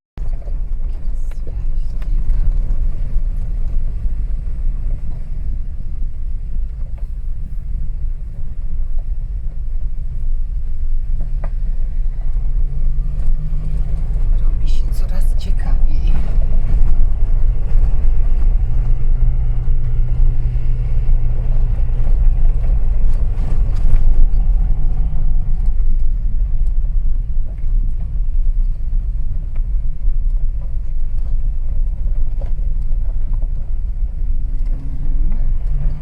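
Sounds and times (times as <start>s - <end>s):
car engine drone: 0.2s - 36.0s
tyres rumbling on dirt track: 0.2s - 36.0s.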